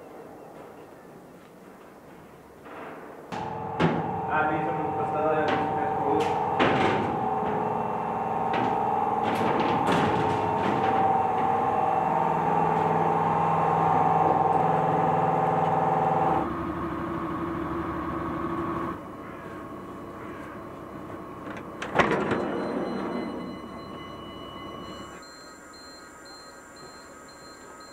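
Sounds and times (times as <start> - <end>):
machinery hum: 3.2 - 27.9.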